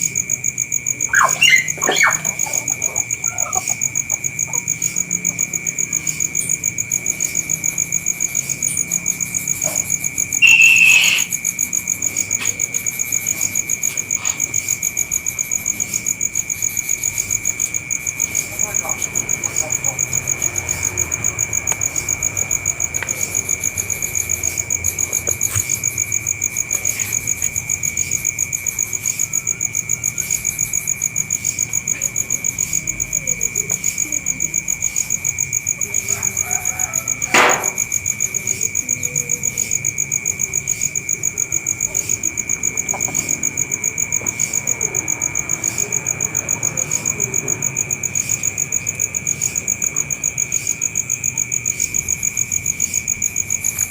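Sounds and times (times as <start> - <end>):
insect chirping trill: 0.0 - 53.9.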